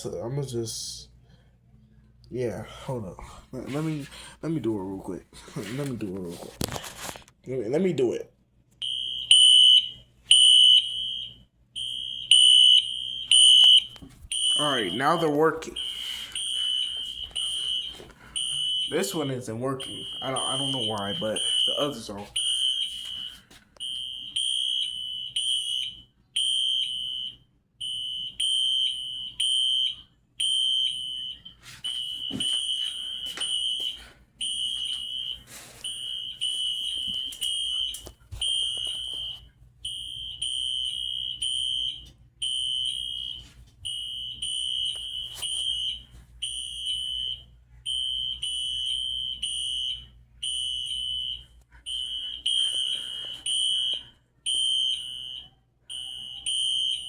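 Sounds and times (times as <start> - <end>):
fire alarms sounding: 8.8 - 57.0.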